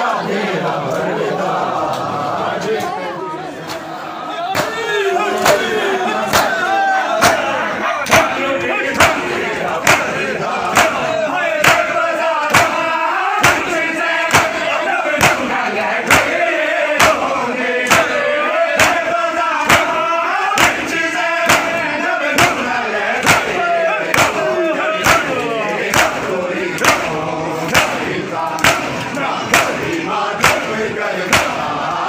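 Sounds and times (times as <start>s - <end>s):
men chanting: 0.0s - 32.0s
hands slapping chests in unison: 4.6s - 32.0s.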